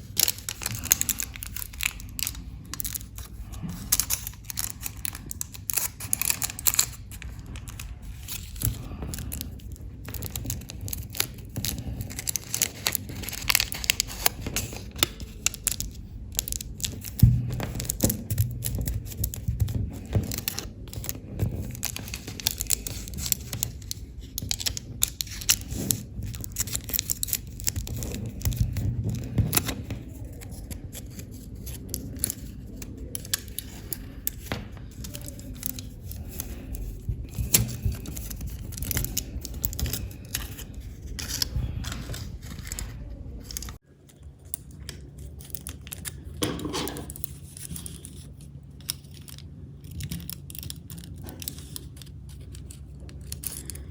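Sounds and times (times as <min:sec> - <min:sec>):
foil and paper crinkling: 0:00.0 - 0:43.8, 0:44.4 - 0:53.9
low background hum: 0:00.0 - 0:53.9.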